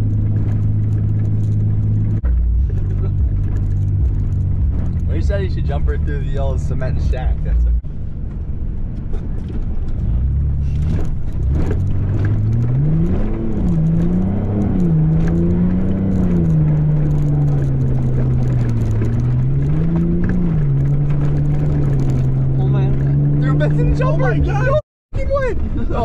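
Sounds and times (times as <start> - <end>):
car engine revving: 0.0 - 24.8
road and tyre noise: 0.0 - 26.0.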